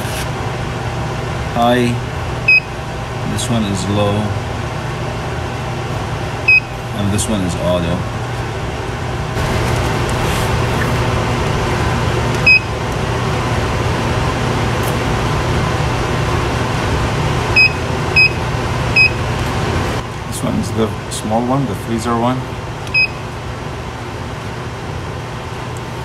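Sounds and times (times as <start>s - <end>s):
fridge humming: 0.0s - 26.0s.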